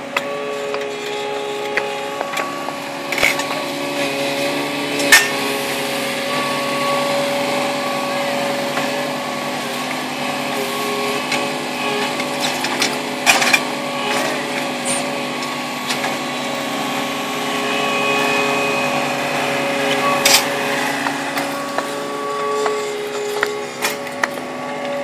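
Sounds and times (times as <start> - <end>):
concrete pavers clacking: 0.0 - 25.0
paver machine engine humming: 0.0 - 25.0.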